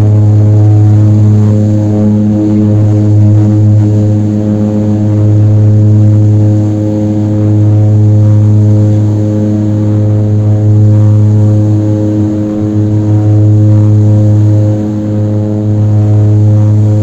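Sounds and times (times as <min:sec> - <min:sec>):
propeller airliner engines droning: 0:00.0 - 0:17.0.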